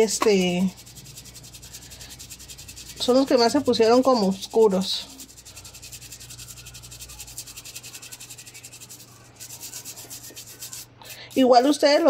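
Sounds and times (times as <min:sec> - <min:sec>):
toothbrush scrubbing a ring: 0:00.0 - 0:12.0.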